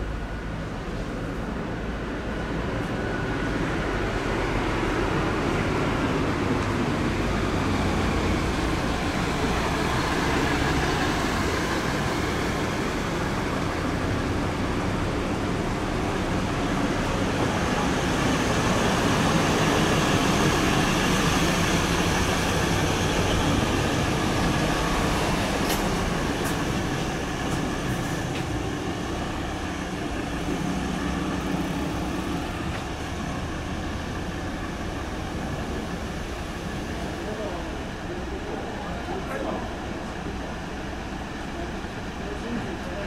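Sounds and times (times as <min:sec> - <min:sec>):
train running: 0:00.0 - 0:43.0.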